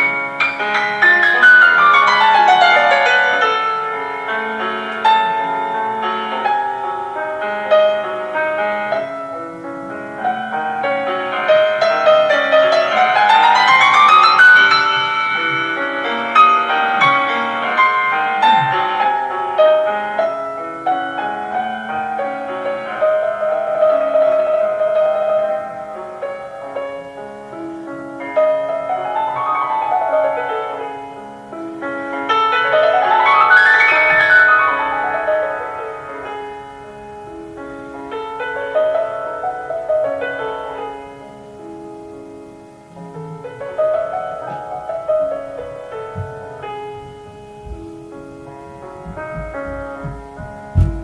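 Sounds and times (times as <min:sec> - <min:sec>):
solo piano classical piece: 0:00.0 - 0:51.0.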